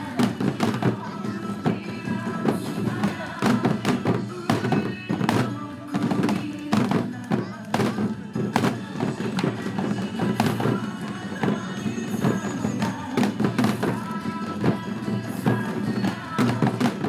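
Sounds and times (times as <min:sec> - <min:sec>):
recorded backing music: 0:00.0 - 0:17.0
hourglass drums beaten: 0:01.7 - 0:17.0.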